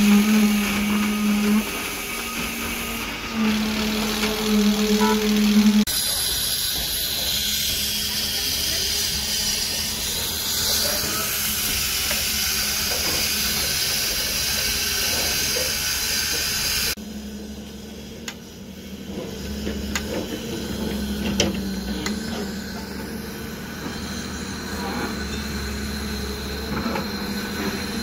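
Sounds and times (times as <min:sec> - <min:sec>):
machine engine running: 0:00.0 - 0:28.0.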